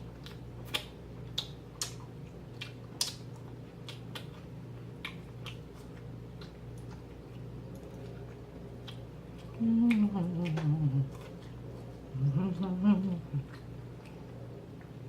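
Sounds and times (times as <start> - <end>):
steady low hum: 0.0 - 15.0
person chewing food: 0.1 - 15.0.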